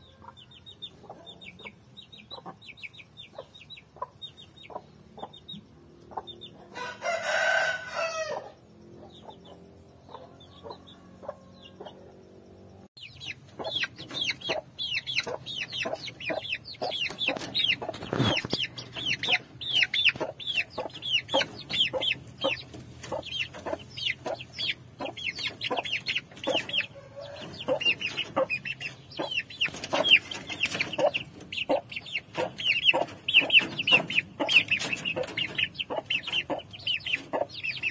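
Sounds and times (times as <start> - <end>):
chicks peeping: 0.0 - 37.9
drawn-out chick call: 6.1 - 12.1, 13.0 - 37.9.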